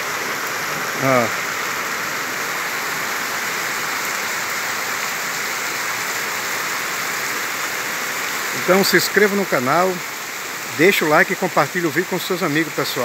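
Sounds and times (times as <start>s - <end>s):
heavy rain on flooded street: 0.0s - 13.0s.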